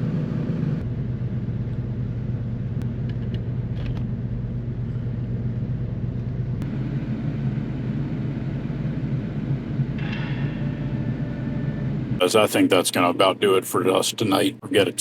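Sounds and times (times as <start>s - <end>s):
generator humming: 0.0s - 15.0s.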